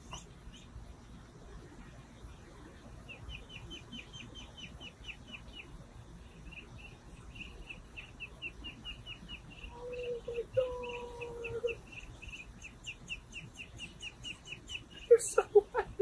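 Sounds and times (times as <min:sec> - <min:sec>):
ducklings peeping: 0:00.0 - 0:15.6.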